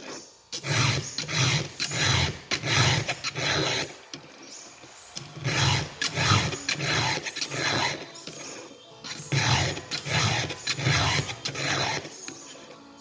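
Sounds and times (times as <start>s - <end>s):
file rasping on chain: 0.0s - 4.4s, 5.2s - 12.7s.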